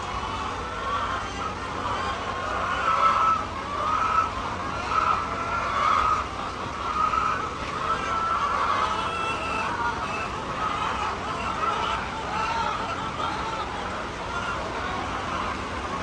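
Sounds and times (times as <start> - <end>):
chickens calling: 0.0 - 16.0.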